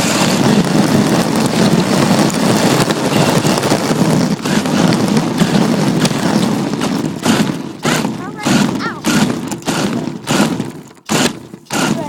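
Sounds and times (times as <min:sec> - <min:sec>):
rc car drivetrain noise: 0:00.0 - 0:12.0.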